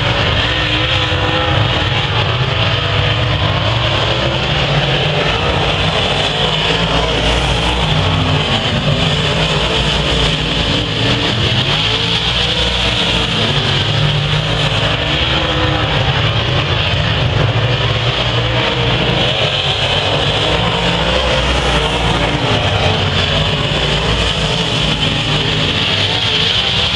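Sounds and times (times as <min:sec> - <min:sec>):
race car engines droning: 0:00.0 - 0:26.9.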